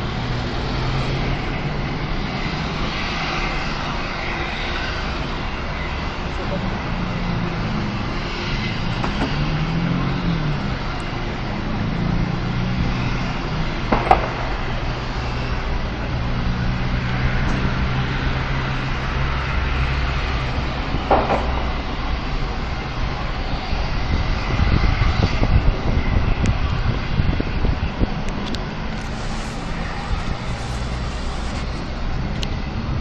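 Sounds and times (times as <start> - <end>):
distant road traffic rumble: 0.0 - 33.0
low engine hum: 0.0 - 33.0.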